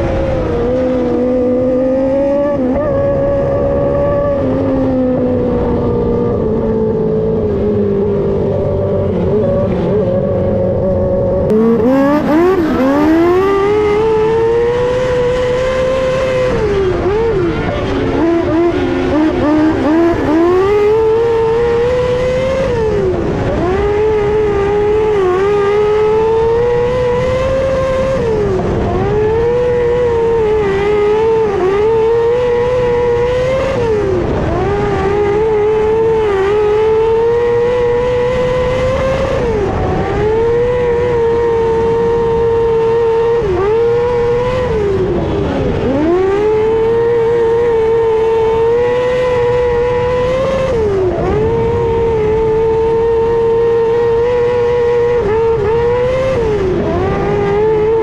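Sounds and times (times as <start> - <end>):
motorcycle engine at racing revs: 0.0 - 58.0.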